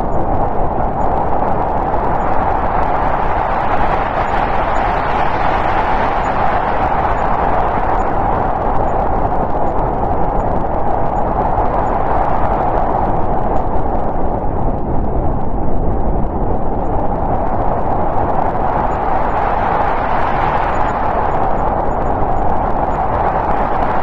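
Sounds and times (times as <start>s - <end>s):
storm wind gusting: 0.0s - 24.0s.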